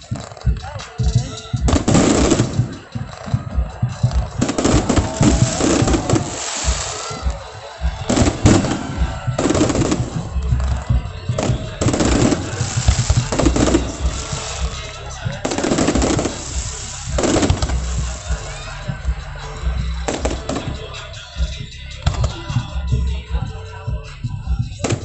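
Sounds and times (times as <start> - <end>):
fireworks bangs and crackles: 0.0 - 25.0
music playing: 0.0 - 25.0.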